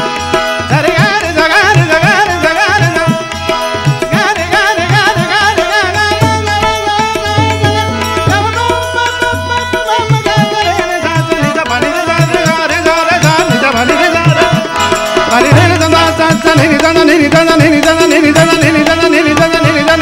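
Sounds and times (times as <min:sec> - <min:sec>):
man singing: 0:00.0 - 0:20.0
tabla: 0:00.0 - 0:20.0.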